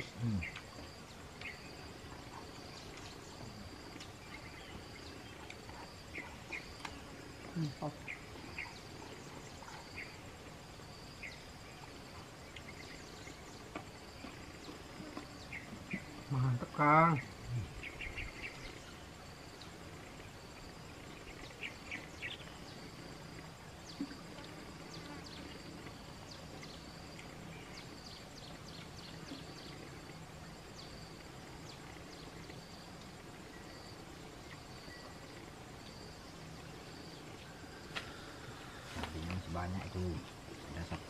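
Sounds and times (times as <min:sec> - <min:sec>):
insects chirring: 0:00.0 - 0:41.0.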